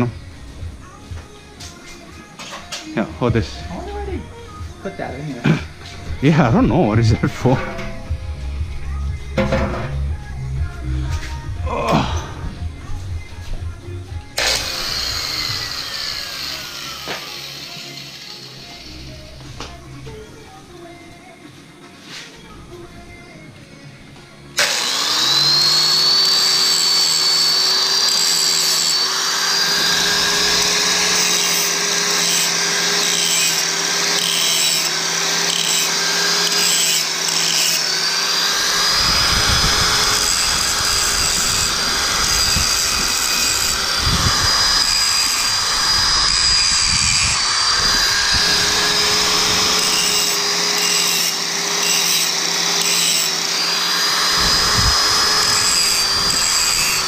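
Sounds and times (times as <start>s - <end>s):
angle grinder grinding metal: 0.0s - 11.4s, 14.1s - 20.5s, 24.6s - 57.0s.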